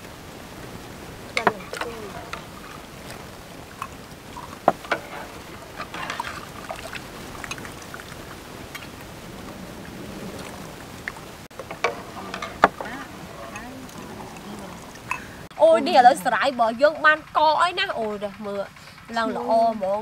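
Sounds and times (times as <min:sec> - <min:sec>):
faint background noise: 0:00.0 - 0:20.0.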